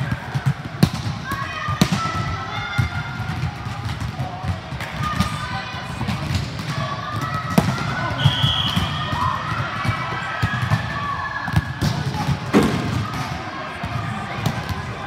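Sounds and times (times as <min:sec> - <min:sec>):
players' voices: 0:00.0 - 0:15.0.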